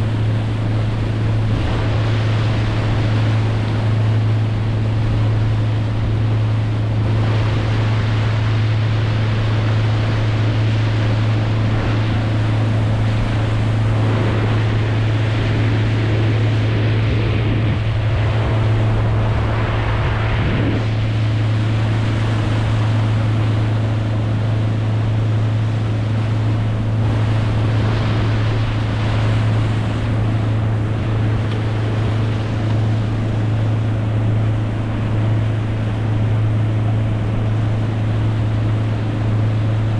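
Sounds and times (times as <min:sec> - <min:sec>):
boat motor droning: 0:00.0 - 0:39.9
water rushing: 0:00.0 - 0:39.9.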